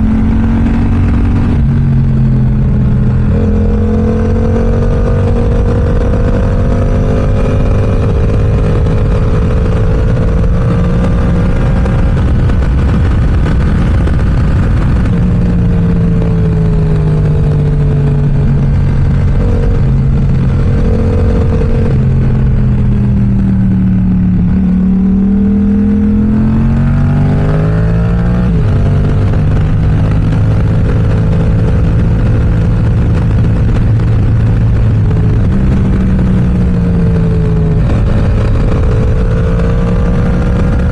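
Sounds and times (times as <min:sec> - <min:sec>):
motorcycle engine revving: 0:00.0 - 0:40.9
wind noise: 0:00.0 - 0:40.9.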